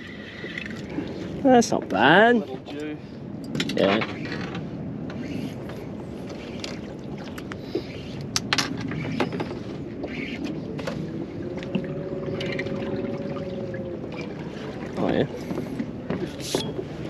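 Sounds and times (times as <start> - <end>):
water lapping against boat hull: 0.0 - 17.0
wind on microphone: 0.0 - 17.0.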